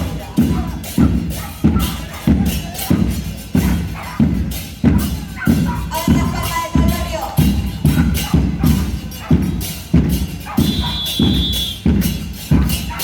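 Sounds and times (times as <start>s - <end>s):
bass drums and cymbals beating: 0.0s - 13.0s.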